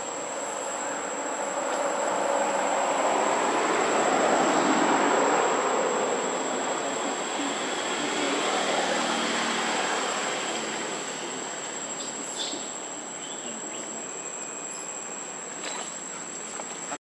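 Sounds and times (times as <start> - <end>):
high-pitched insect whine: 0.0 - 17.0.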